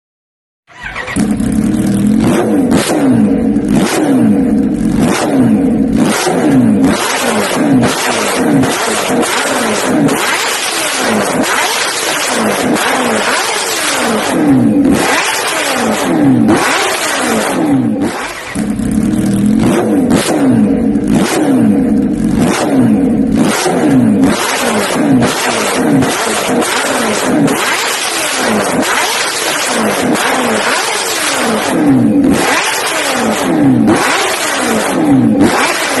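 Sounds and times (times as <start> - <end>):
motor vehicle engines: 0.7 - 36.0.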